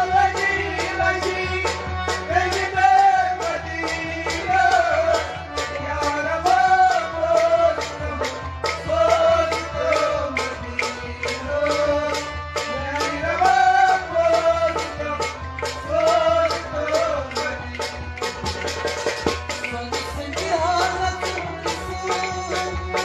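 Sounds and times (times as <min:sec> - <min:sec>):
man singing devotional melody: 0:00.0 - 0:18.4, 0:19.5 - 0:23.0
harmonium: 0:00.0 - 0:23.0
sharp percussion strikes: 0:00.0 - 0:23.0.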